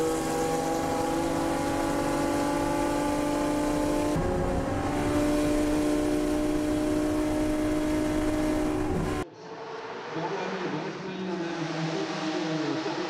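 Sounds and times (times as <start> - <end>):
racing car engine at full speed: 0.0 - 13.0.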